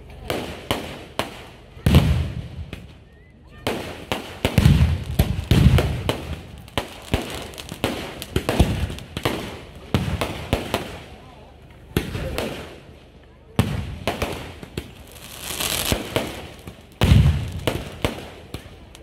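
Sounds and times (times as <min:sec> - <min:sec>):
fireworks bangs and crackles: 0:00.0 - 0:19.0
heavy firework booms: 0:00.3 - 0:02.9, 0:03.6 - 0:11.1, 0:13.6 - 0:18.9.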